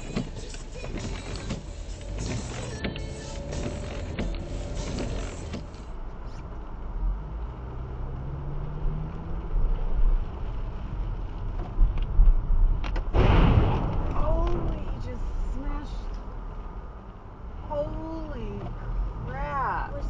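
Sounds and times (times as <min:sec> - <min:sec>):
car engine hum: 0:00.0 - 0:20.0
tyres rumbling on wet road: 0:00.0 - 0:20.0.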